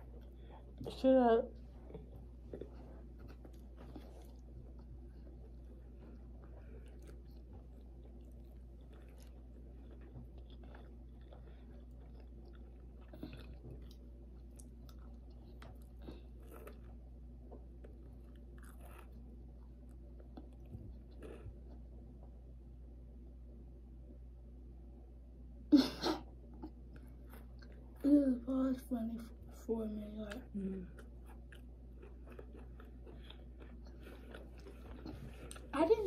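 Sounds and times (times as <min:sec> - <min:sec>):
people chewing: 0:00.0 - 0:01.0, 0:01.6 - 0:22.3, 0:26.5 - 0:28.2, 0:29.9 - 0:36.0
steady low hum: 0:00.0 - 0:36.0.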